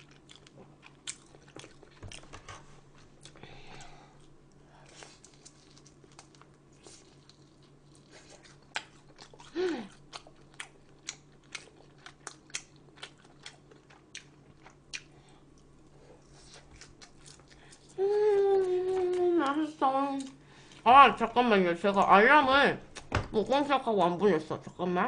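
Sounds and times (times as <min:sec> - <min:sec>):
chewing and crunching: 0:00.0 - 0:20.9.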